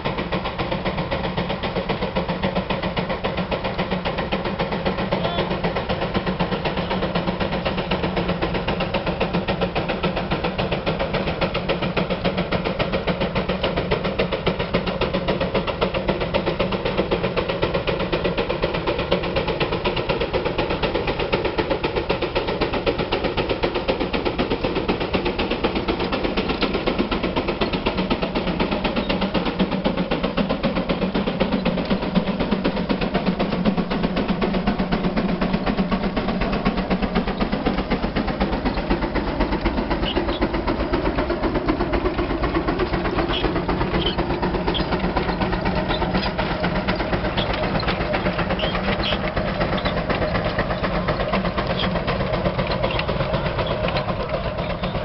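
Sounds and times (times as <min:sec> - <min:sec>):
steam engine exhaust chuffing: 0:00.0 - 0:55.0.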